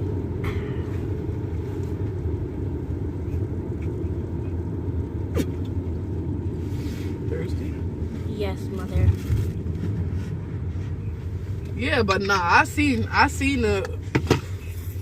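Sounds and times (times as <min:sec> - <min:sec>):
car engine rumble: 0:00.0 - 0:15.0
road noise inside car: 0:00.0 - 0:15.0.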